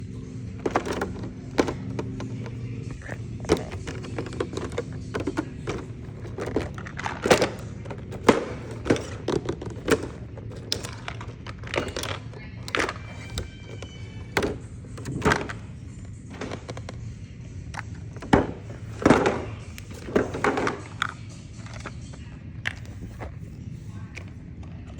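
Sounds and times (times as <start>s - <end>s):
steady low hum: 0.0s - 24.9s
plastic toys clicking: 0.4s - 17.1s, 17.7s - 23.3s.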